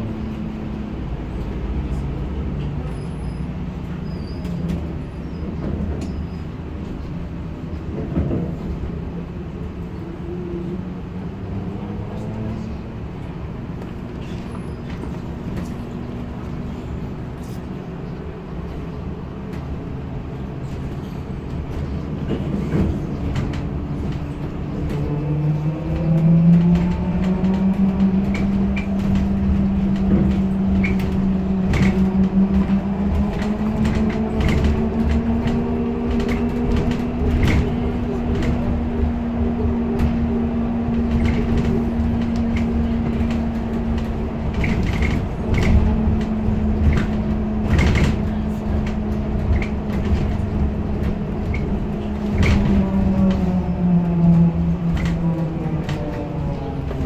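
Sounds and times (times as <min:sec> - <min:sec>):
running rumble: 0:00.0 - 0:57.0.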